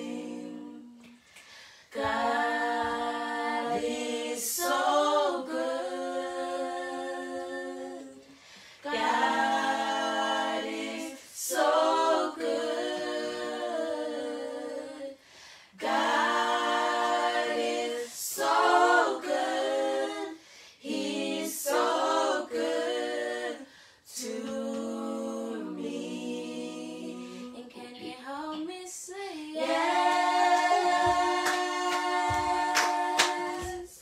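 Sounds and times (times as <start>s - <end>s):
voices singing a cappella: 0.0s - 34.0s.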